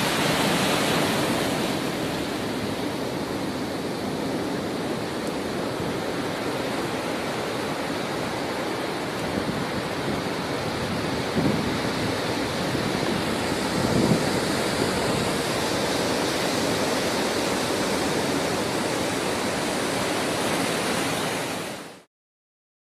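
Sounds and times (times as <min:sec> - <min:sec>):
churning surf rushing: 0:00.0 - 0:22.1
waves crashing: 0:00.0 - 0:22.1.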